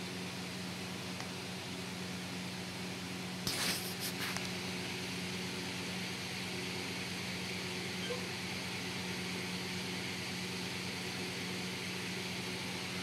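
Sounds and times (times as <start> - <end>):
room tone hum and hiss: 0.0 - 13.0.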